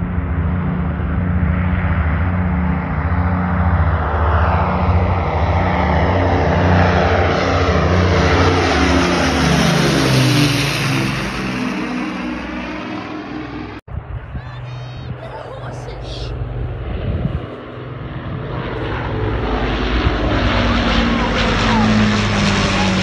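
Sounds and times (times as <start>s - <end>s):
propeller plane flying over: 0.0s - 23.0s.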